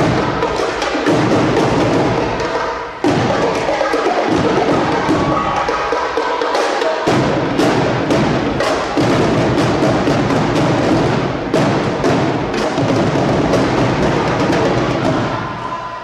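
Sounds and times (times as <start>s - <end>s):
deep heavy drums: 0.0s - 6.1s, 7.0s - 15.8s
snare and tenor drums: 0.0s - 15.4s.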